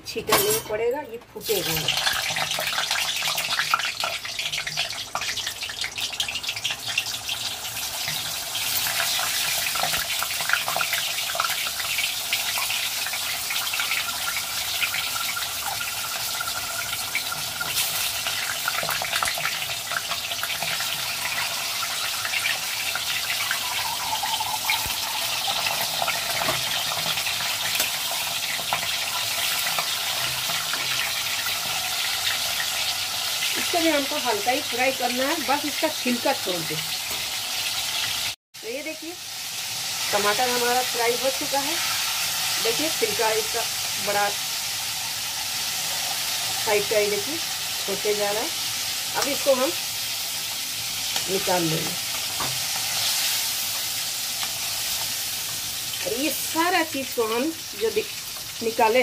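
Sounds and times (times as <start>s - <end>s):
tomatoes sizzling in hot oil: 0.5s - 59.0s.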